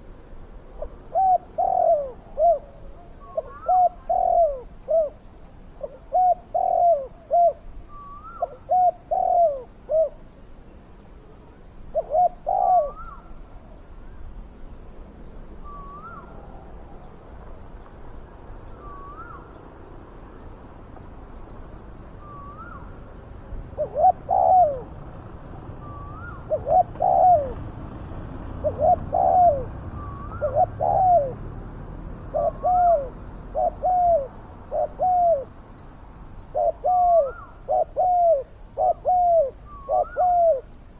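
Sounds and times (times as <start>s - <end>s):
doves cooing: 0.6s - 10.3s, 11.2s - 13.8s, 15.6s - 20.4s, 21.9s - 35.7s, 36.4s - 40.8s.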